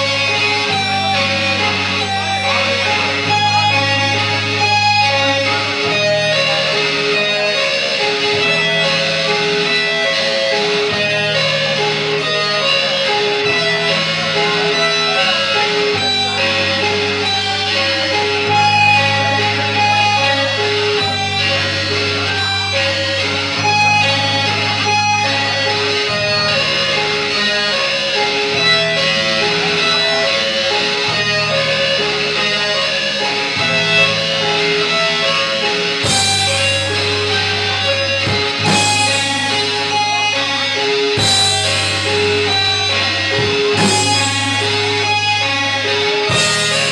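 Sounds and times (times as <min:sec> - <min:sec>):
death metal band playing live: 0:00.0 - 0:46.9
distorted electric guitars: 0:00.0 - 0:46.9
low bass notes: 0:00.0 - 0:46.9.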